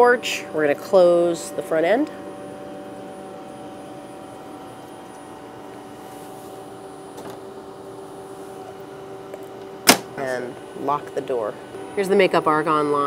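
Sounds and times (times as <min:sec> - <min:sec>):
lab equipment hum: 0:00.0 - 0:13.0.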